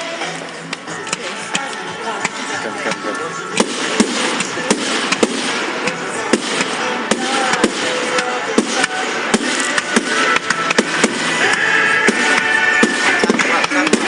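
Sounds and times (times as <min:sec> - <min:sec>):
fireworks crackling: 0:00.0 - 0:14.0
fireworks bangs: 0:01.0 - 0:14.0.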